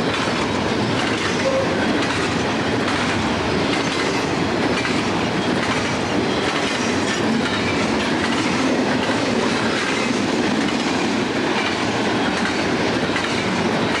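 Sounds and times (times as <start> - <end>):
train cars rolling on rails: 0.0 - 14.0.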